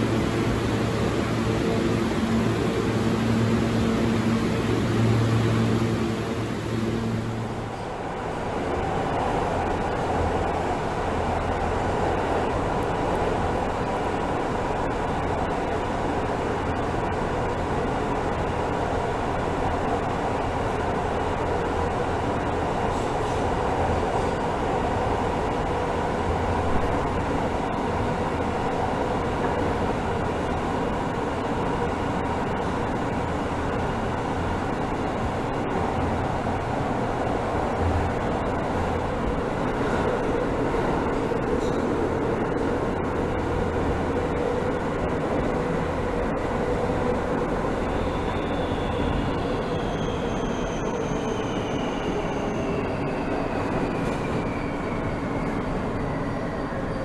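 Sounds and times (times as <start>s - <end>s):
subway train running in tunnel: 0.0s - 57.0s.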